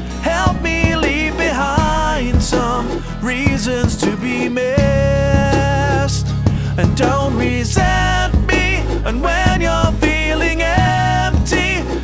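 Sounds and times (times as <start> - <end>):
man singing: 0.0 - 12.0
strummed acoustic guitar: 0.0 - 12.0.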